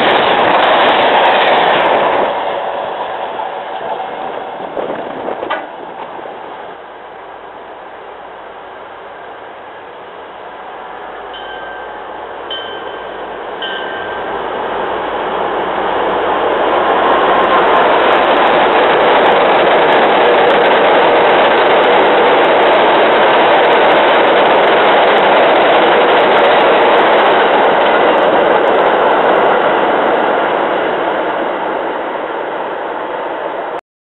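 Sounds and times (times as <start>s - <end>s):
passenger train passing: 0.0s - 33.8s.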